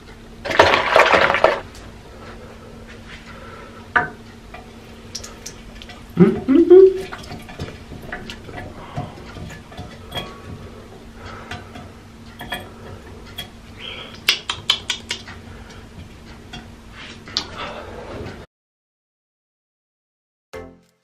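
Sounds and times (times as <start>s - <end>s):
faint hum: 0.0s - 18.4s.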